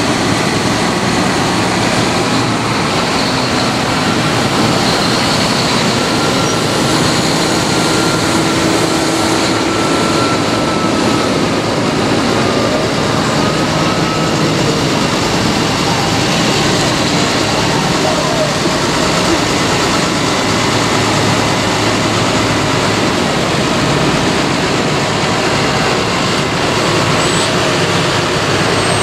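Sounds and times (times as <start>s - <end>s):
tractor engines droning: 0.0s - 29.0s.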